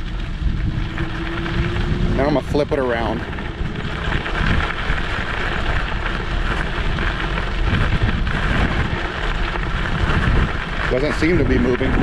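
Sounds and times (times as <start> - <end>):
scooter tyres rolling on gravel: 0.0 - 12.0
wind buffeting microphone: 0.0 - 12.0.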